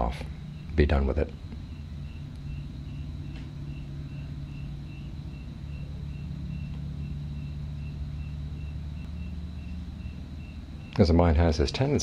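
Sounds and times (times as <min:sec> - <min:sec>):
faint high-pitched chirp: 0:00.0 - 0:11.2
low background hum: 0:00.0 - 0:12.0.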